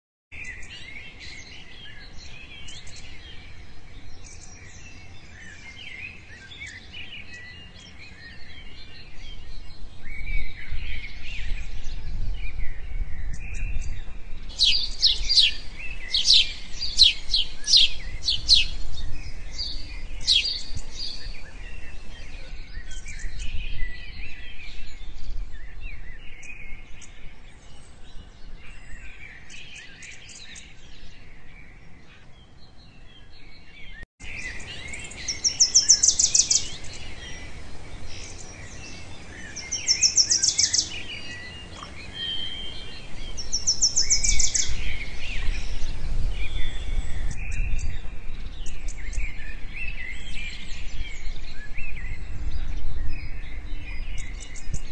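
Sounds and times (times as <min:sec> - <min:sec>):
small birds chirping: 0:00.3 - 0:54.9.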